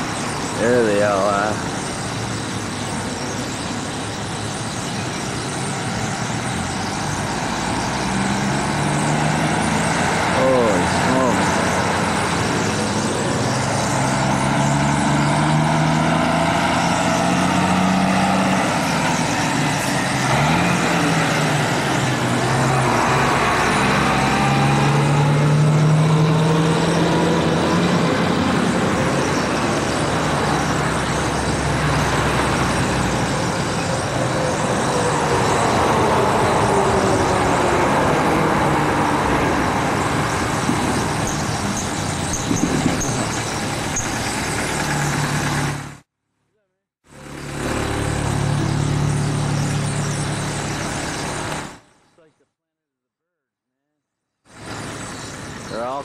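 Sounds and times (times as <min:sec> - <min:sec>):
highway traffic passing: 0:00.0 - 0:46.1, 0:47.0 - 0:52.3, 0:54.4 - 0:56.0.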